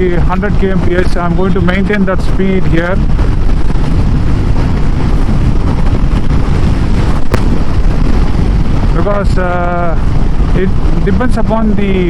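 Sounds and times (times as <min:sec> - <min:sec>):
motorcycle engine: 0:00.0 - 0:11.6
road noise: 0:00.0 - 0:12.0
wind rush on microphone: 0:00.0 - 0:12.0.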